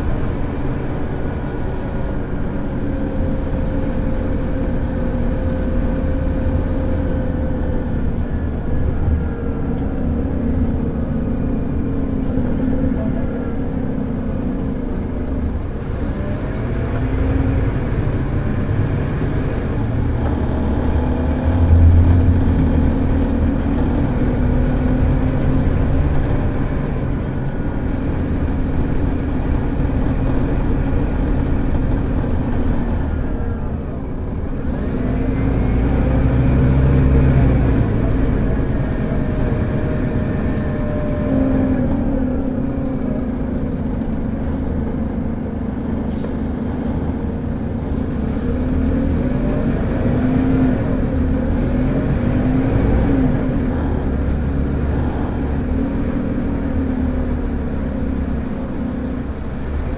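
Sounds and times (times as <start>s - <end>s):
bus diesel engine under full throttle: 0.0s - 59.9s.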